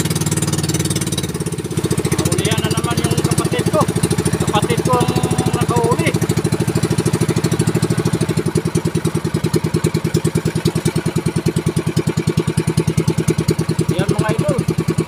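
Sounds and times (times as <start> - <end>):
boat engine putter: 0.0 - 15.0.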